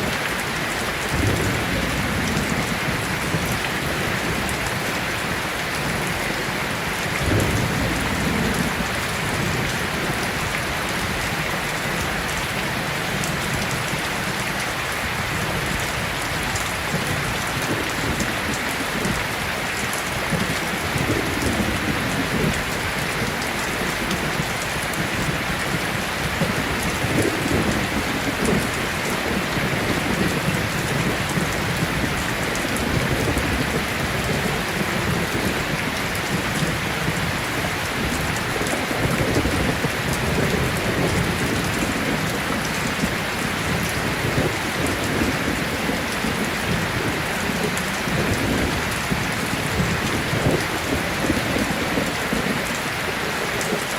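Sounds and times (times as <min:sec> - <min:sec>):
dense rain falling: 0:00.0 - 0:53.9.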